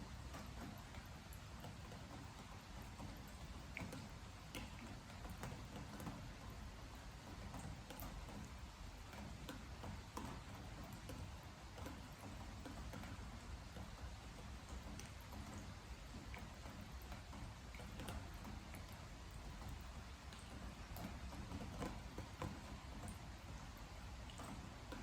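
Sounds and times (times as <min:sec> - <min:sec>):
rain falling: 0:00.0 - 0:25.0
drips tapping on wooden deck: 0:00.2 - 0:25.0.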